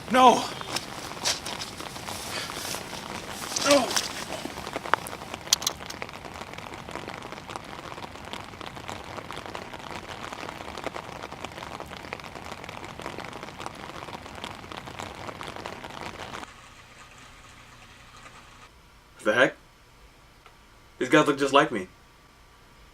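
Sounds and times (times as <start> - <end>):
rain-like patter of clicks: 0.0 - 18.7.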